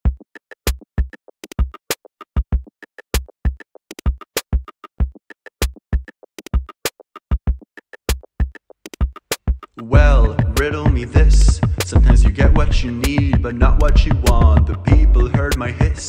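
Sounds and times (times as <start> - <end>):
drum machine beat: 0.0 - 16.0.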